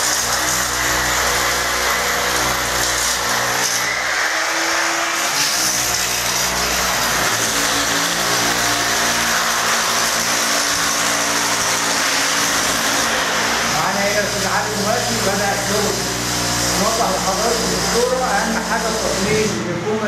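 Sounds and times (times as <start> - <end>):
electric drill drilling: 0.0 - 19.8.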